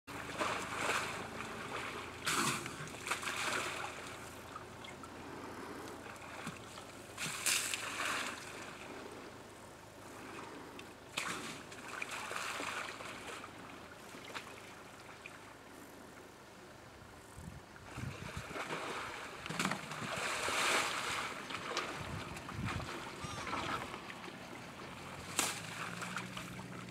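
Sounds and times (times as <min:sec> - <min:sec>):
water splashing and trickling: 0:00.1 - 0:05.1, 0:06.0 - 0:09.1, 0:11.1 - 0:15.6, 0:17.9 - 0:26.9.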